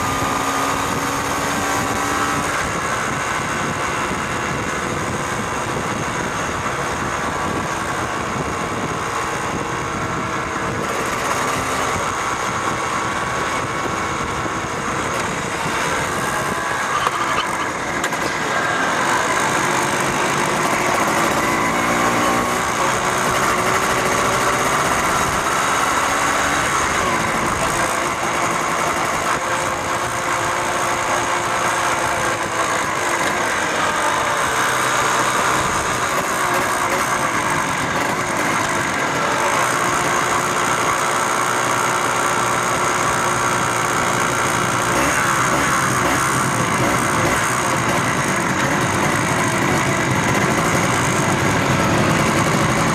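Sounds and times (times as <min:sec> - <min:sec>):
motorcycle engines running: 0:00.0 - 0:52.9
road noise: 0:00.0 - 0:52.9.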